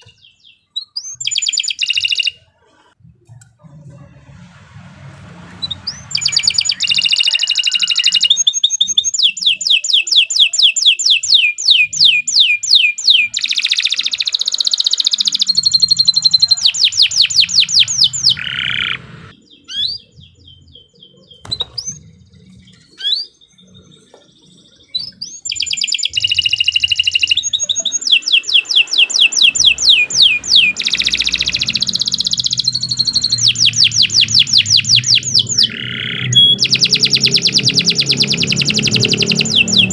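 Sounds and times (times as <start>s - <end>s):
canary singing trills: 0.0s - 3.0s, 5.5s - 39.9s.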